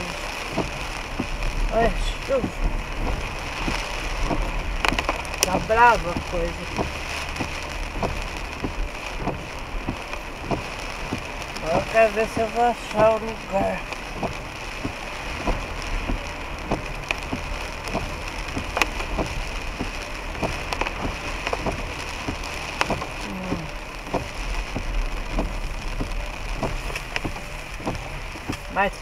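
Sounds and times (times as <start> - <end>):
car rumbling on wet road: 0.0 - 29.0
heavy rain hissing: 0.0 - 29.0
raindrops hitting car roof: 0.0 - 29.0.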